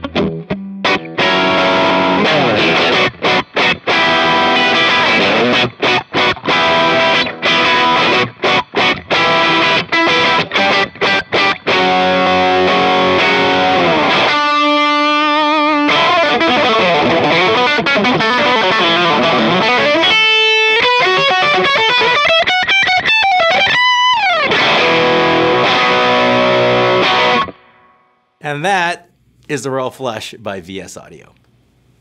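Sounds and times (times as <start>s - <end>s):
overdriven electric guitar: 0.0s - 28.1s.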